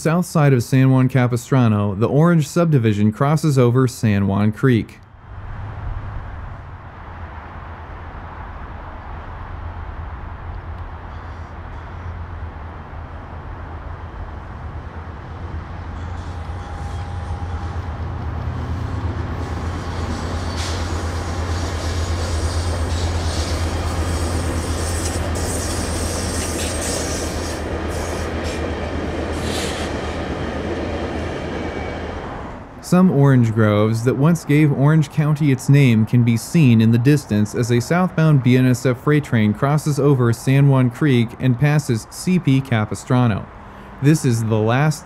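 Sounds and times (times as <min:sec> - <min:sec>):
diesel locomotive drone: 0:00.0 - 0:45.0.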